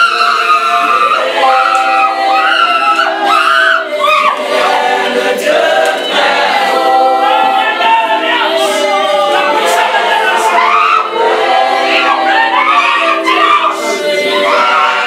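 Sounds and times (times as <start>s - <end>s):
congregation singing unaccompanied: 0.0s - 15.0s.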